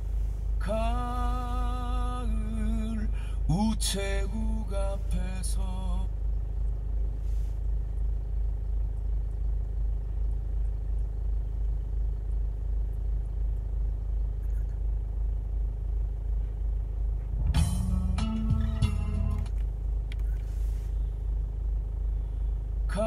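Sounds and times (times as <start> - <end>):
car engine rumble in cabin: 0.0 - 23.0.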